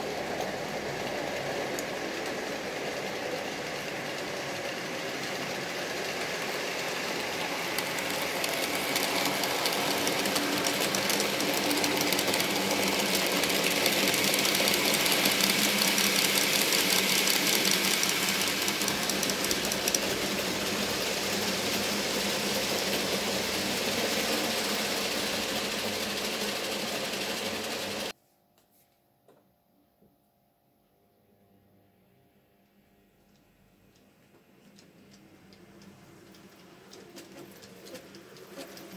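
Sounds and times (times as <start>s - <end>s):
model train motor running: 0.0s - 28.1s, 35.8s - 38.9s
wheels clicking on track: 0.0s - 28.1s, 34.8s - 38.9s.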